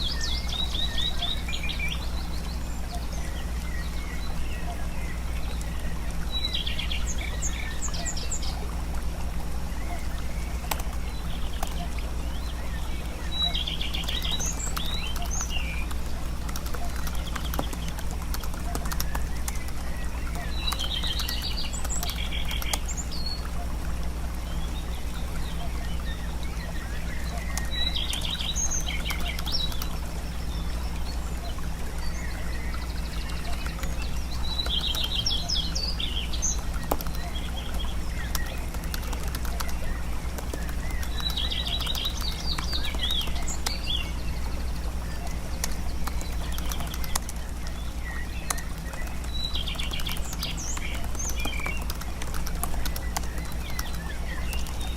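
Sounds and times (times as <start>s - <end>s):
bird chirping: 0.0s - 8.9s, 9.6s - 23.8s, 24.4s - 54.9s
faint clicks: 0.0s - 54.9s
low home hum: 0.0s - 54.9s.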